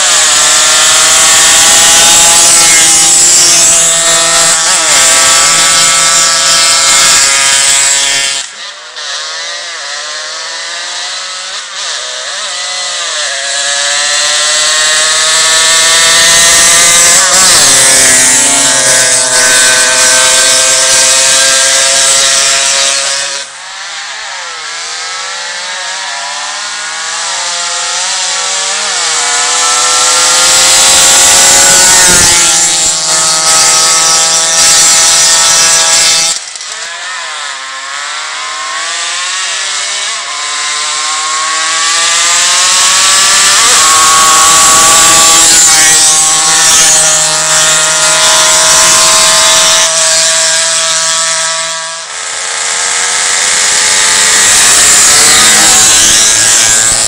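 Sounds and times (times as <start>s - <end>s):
moped engines revving: 0.0s - 57.0s.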